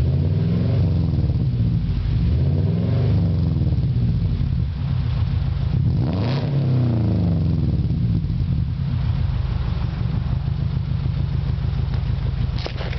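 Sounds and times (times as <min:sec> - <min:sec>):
car engine idling and revving: 0:00.0 - 0:12.9.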